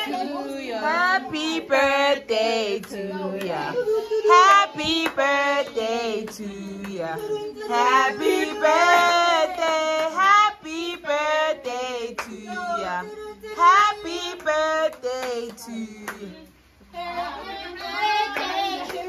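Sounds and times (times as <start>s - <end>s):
children and women singing: 0.0s - 19.0s.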